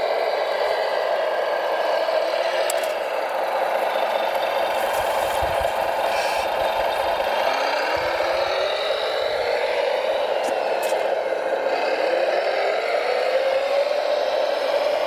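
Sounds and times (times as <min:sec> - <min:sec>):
model truck motor whine: 0:00.0 - 0:15.0.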